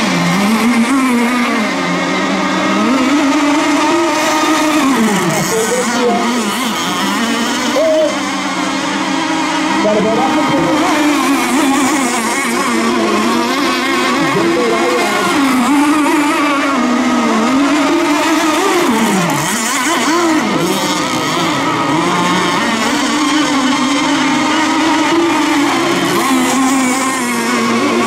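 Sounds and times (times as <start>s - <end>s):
boat engines at high revs: 0.0s - 28.0s.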